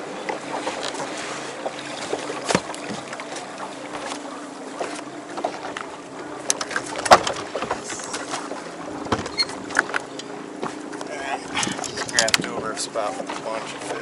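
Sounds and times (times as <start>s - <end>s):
water washing against hull: 0.0s - 14.0s.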